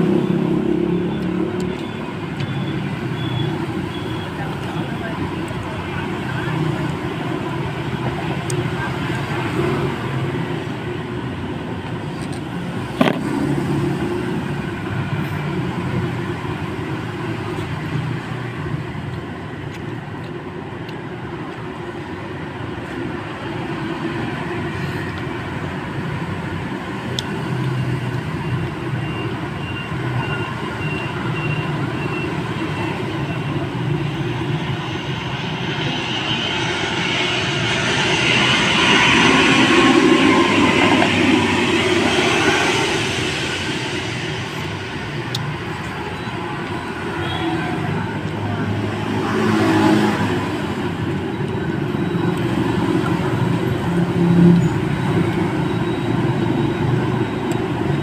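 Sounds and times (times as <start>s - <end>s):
passing traffic: 0.0s - 58.0s.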